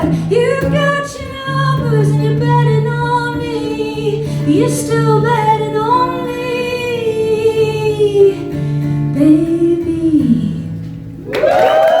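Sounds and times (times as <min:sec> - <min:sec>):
woman singing: 0:00.0 - 0:10.9.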